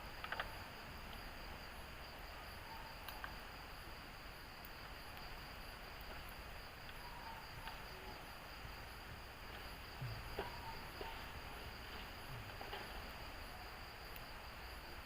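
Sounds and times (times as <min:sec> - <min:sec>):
insects chirring: 0:00.0 - 0:15.0
pulsing insect chirp: 0:00.0 - 0:15.0.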